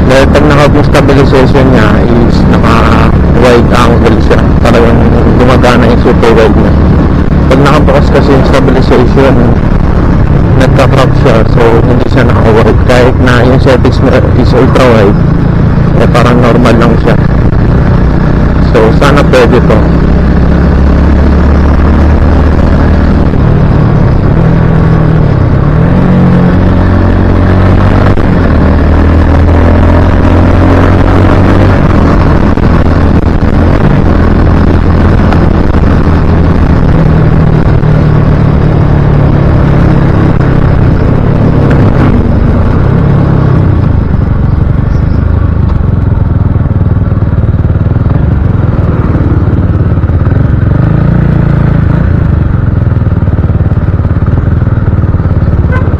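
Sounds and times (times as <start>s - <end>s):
motorcycle engine revving: 0.0s - 55.9s
wind rumble on microphone: 0.0s - 55.9s.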